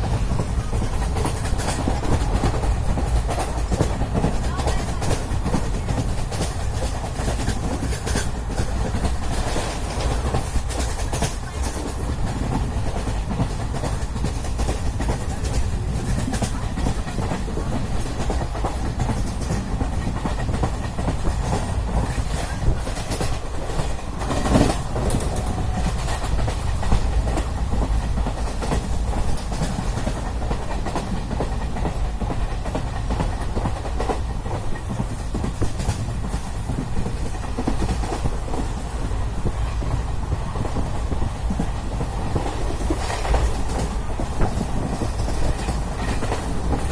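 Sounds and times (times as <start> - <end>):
train rumble: 0.0 - 46.9
wheels clacking over rail joints: 0.0 - 46.9.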